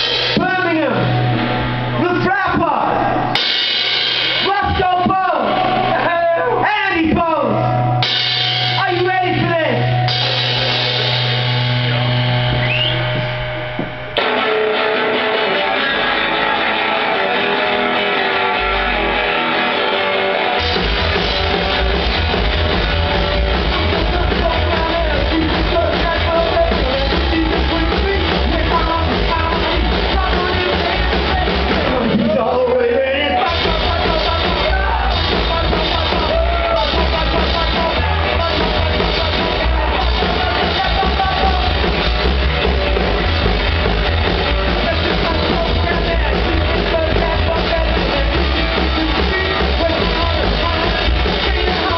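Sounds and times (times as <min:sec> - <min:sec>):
live rock and roll band: 0:00.0 - 0:51.9.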